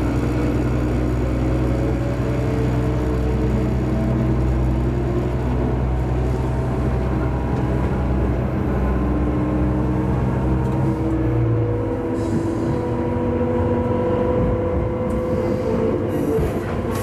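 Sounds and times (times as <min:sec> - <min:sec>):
diesel railcar engine drone: 0:00.0 - 0:17.0.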